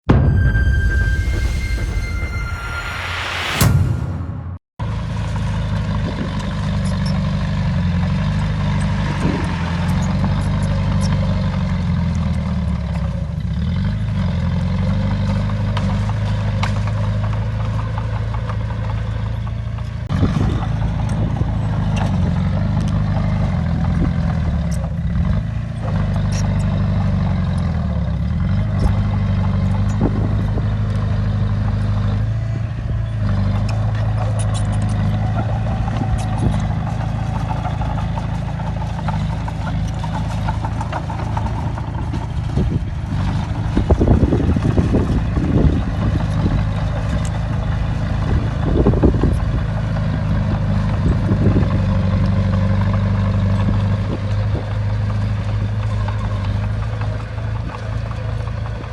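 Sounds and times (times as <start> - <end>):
bulldozer diesel engine under load: 4.9 - 58.9.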